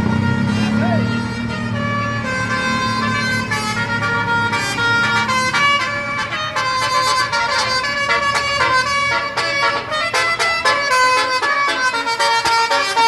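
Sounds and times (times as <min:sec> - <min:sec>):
bus horn playing a tune: 0:00.0 - 0:13.0.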